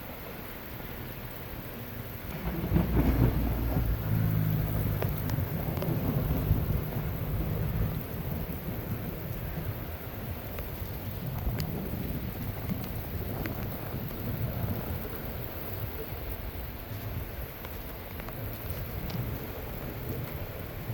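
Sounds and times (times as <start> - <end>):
steady rain: 0.0 - 20.9
thunder rumbling: 2.2 - 20.9.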